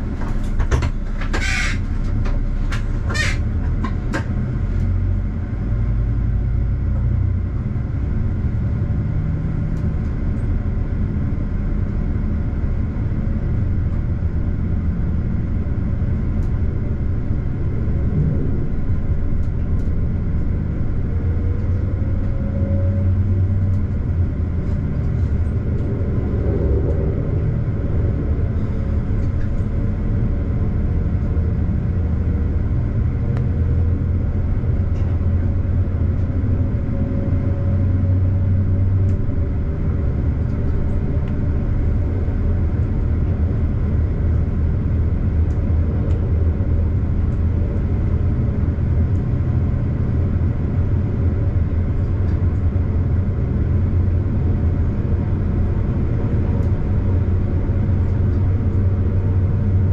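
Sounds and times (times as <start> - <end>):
train engine drone: 0.0 - 59.9
train wheels rumbling on track: 0.0 - 59.9.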